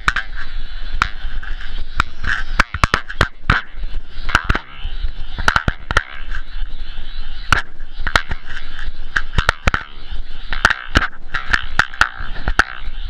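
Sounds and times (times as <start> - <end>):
air rushing over microphone: 0.0 - 13.0.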